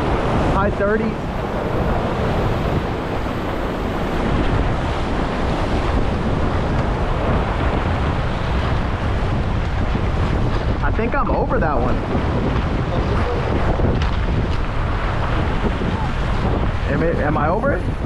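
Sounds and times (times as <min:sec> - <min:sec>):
waves breaking against rocks: 0:00.0 - 0:18.0
wind buffeting microphone: 0:00.0 - 0:18.0.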